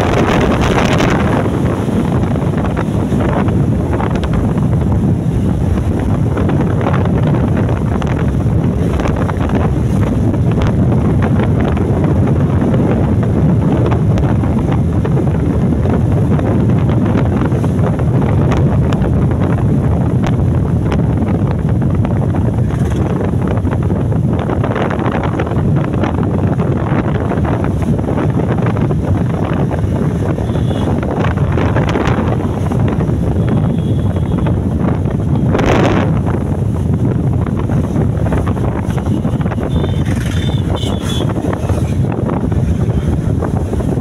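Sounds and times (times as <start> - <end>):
wind rush on microphone: 0.0 - 44.0.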